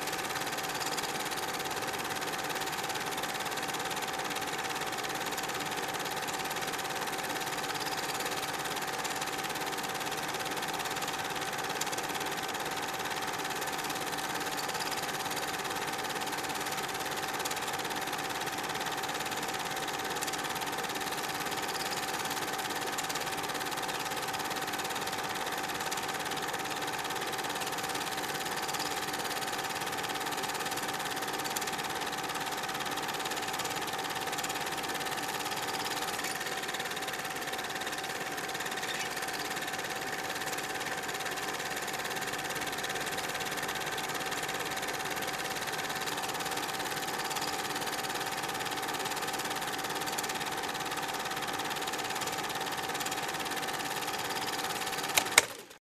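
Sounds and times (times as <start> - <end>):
film projector running: 0.0 - 55.8.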